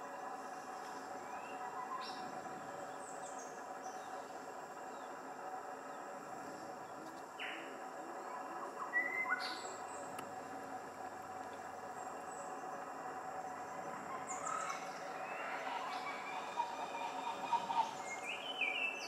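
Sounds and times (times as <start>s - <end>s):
insects humming: 0.0s - 19.0s
wild birds chirping: 0.0s - 19.0s.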